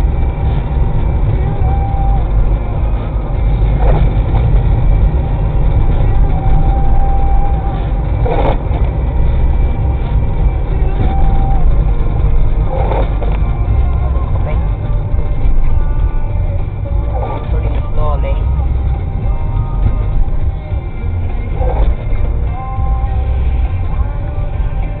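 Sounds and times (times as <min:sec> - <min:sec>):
car rumble on snowy road: 0:00.0 - 0:25.0.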